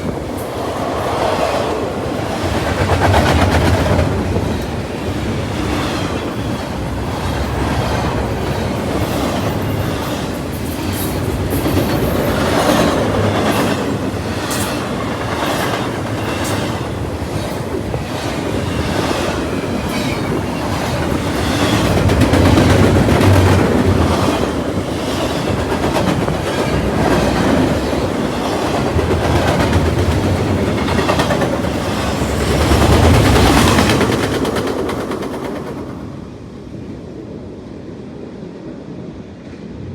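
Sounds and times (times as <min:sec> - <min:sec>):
freight train rumble: 0:00.0 - 0:39.9
train wheels clattering over rail joints: 0:02.2 - 0:36.0.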